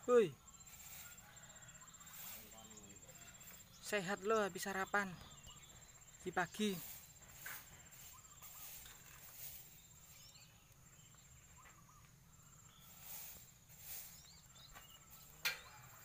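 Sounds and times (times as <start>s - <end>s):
bird chirps: 0.0s - 16.0s
crickets trilling: 0.0s - 16.0s.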